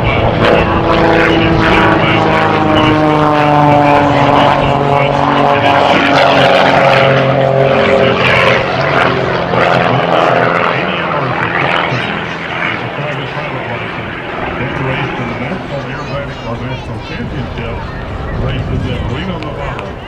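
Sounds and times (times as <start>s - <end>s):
propeller plane engine overhead: 0.0s - 20.0s.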